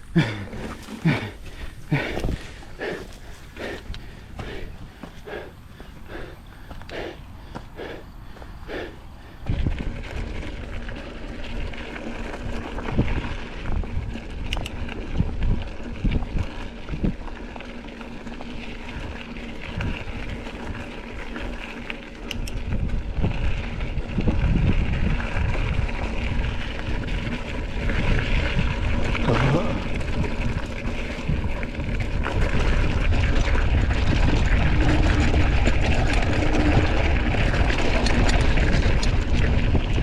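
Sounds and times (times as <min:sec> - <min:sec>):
wind buffeting microphone: 0:00.0 - 0:17.6, 0:18.2 - 0:40.0
tyres rumbling on dirt trail: 0:00.0 - 0:40.0.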